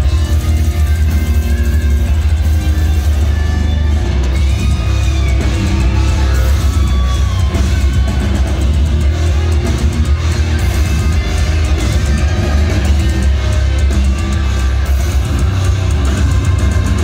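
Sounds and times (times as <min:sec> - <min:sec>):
distorted electric guitars: 0:00.0 - 0:17.0
drums: 0:00.0 - 0:17.0.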